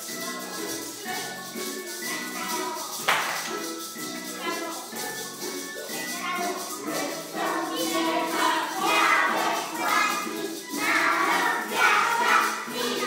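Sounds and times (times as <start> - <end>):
musical accompaniment: 0.0 - 13.0
young children singing: 0.0 - 13.0.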